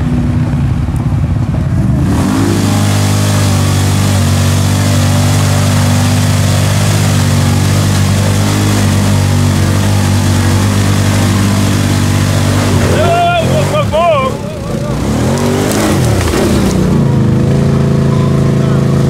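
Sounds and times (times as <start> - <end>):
atv engine revving in mud: 1.7 - 19.0.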